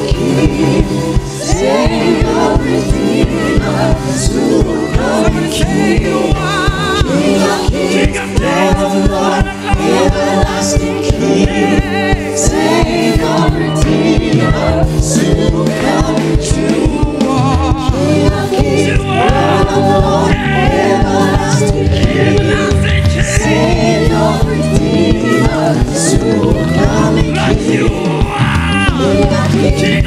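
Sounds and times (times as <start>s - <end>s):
band with steady bass line: 0.0s - 30.0s
women singing gospel: 0.0s - 30.0s.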